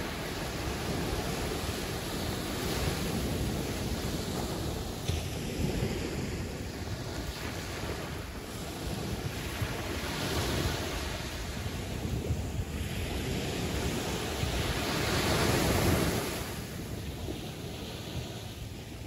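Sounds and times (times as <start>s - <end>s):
waves breaking and washing in: 0.0s - 19.0s
wind rumble on microphone: 0.0s - 19.0s.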